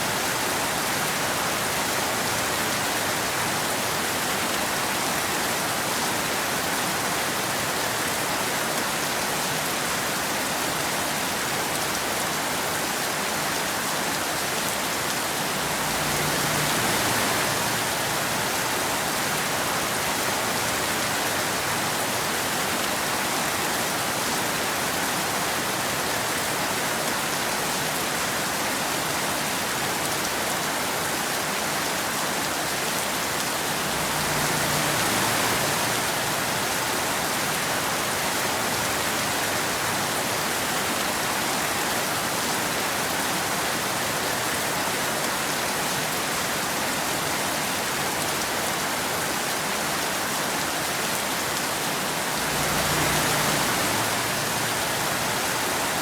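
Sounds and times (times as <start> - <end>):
rain on a hard surface: 0.0 - 56.0.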